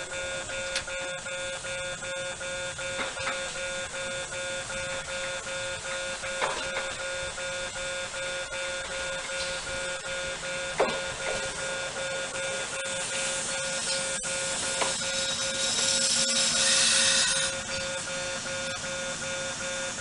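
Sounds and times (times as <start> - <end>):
level-crossing warning bell: 0.0 - 20.0.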